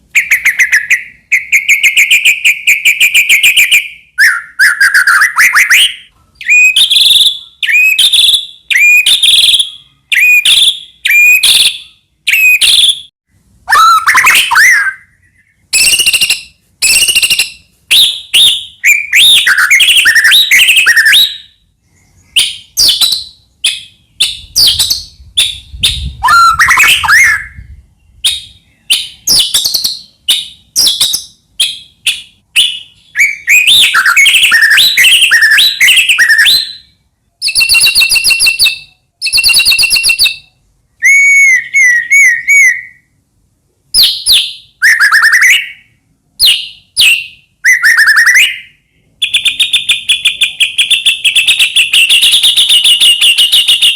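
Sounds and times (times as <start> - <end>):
bird singing whistled phrases: 0.1 - 13.1, 13.7 - 43.1, 44.0 - 53.9.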